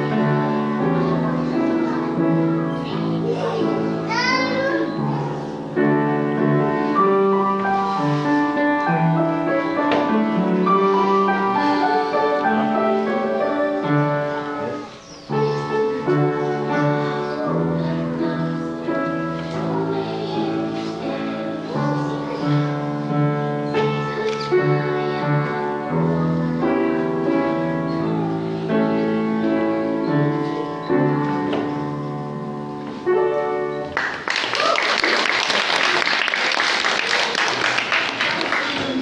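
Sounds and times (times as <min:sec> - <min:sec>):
children singing: 0:00.0 - 0:33.6
upright piano playing: 0:00.0 - 0:39.0.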